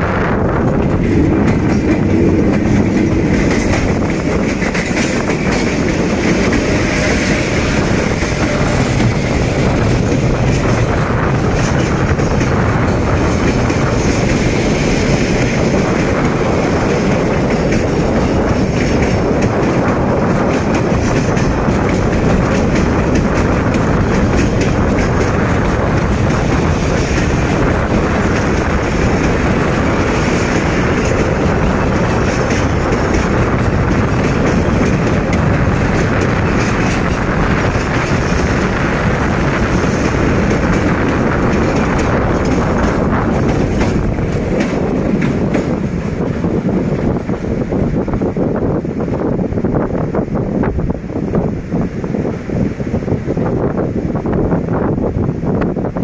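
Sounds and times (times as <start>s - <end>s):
freight wagons rumbling: 0.0s - 52.2s
diesel locomotive passing: 0.0s - 56.0s
wheels clicking on rails: 0.5s - 50.0s.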